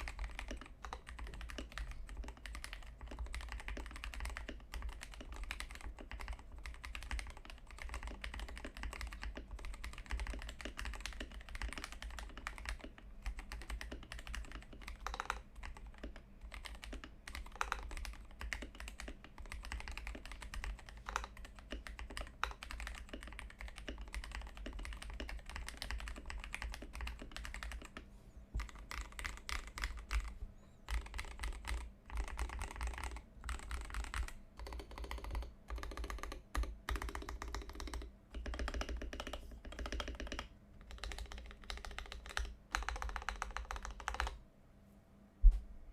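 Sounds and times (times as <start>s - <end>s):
mechanical keyboard typing: 0.0s - 28.0s, 28.6s - 44.4s
low steady hum: 0.0s - 45.9s.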